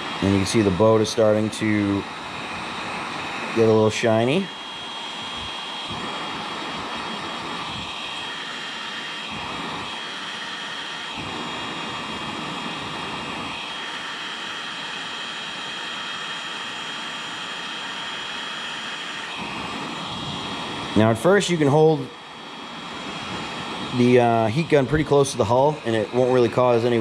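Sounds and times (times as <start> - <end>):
heat gun blowing air: 0.0 - 27.0.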